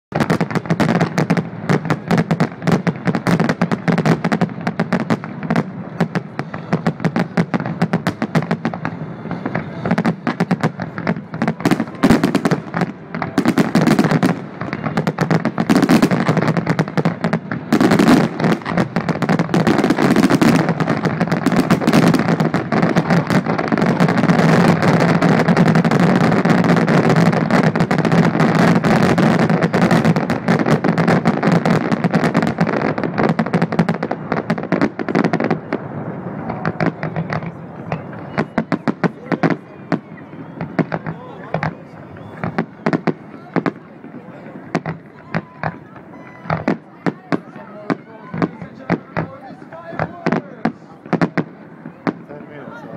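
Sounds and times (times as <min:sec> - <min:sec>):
fireworks exploding: 0:00.1 - 0:52.9.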